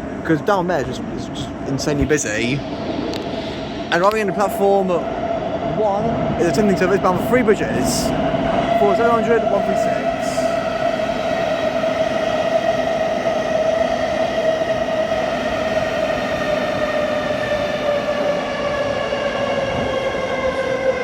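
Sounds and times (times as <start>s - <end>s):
train traction motor whine: 0.0s - 21.0s
train wheels rumbling: 0.0s - 21.0s.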